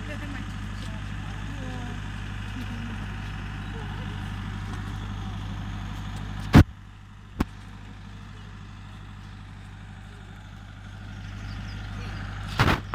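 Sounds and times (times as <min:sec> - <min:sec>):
small train engine humming: 0:00.0 - 0:12.9.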